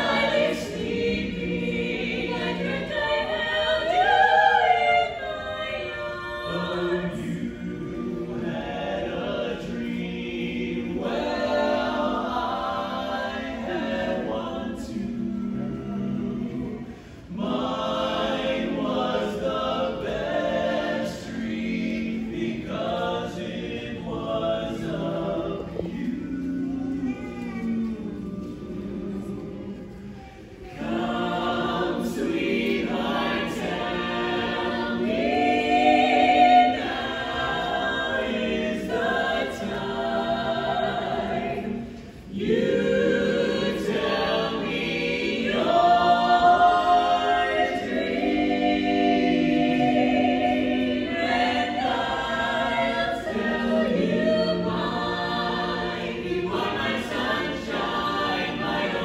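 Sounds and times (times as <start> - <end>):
vocal group singing in harmony: 0.0 - 59.0.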